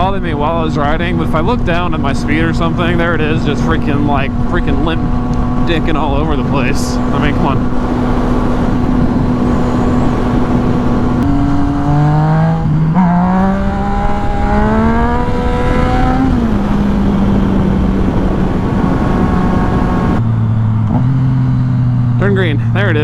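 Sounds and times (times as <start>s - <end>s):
wind noise on microphone: 0.0s - 21.6s
motorcycle engine accelerating: 0.0s - 23.0s.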